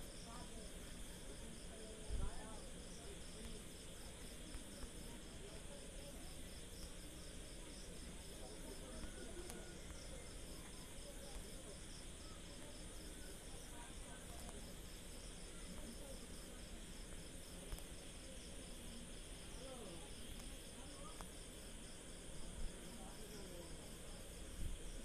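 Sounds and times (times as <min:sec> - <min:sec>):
faint insect chirping: 0:00.0 - 0:25.0.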